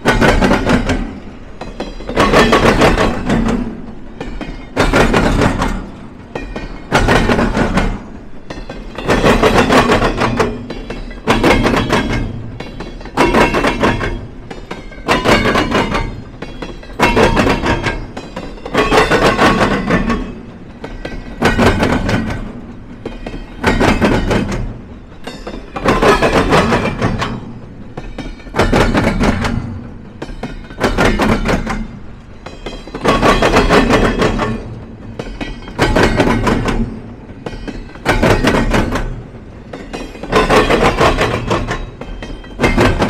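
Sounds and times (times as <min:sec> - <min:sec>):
train wheels banging over crossing: 0:00.0 - 0:43.0.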